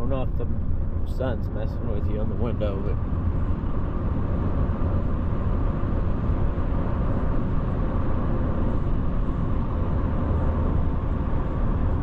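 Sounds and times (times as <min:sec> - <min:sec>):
engine hum inside vehicle cab: 0:00.0 - 0:12.0.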